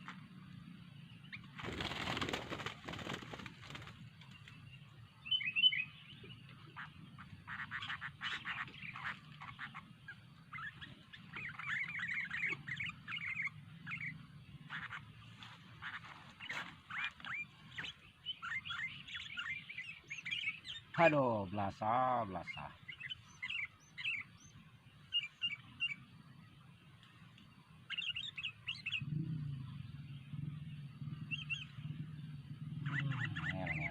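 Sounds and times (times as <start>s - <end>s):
bird chirping and singing: 0.0s - 26.9s, 27.5s - 33.9s
faint low hum: 0.0s - 33.9s.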